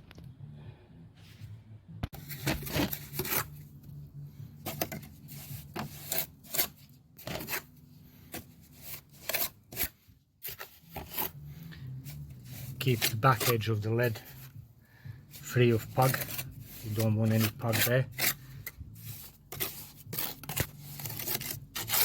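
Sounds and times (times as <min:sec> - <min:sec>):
trowel scraping mortar: 0:02.3 - 0:03.6, 0:04.6 - 0:14.5, 0:15.4 - 0:22.0.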